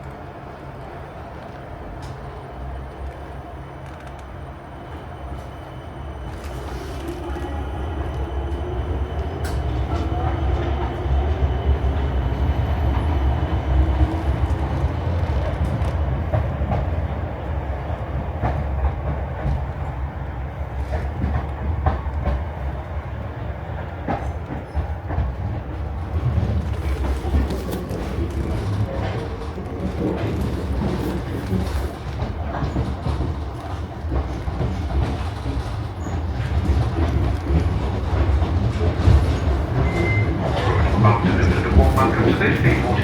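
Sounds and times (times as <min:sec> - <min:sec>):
electric train rumble: 0:00.0 - 0:43.0.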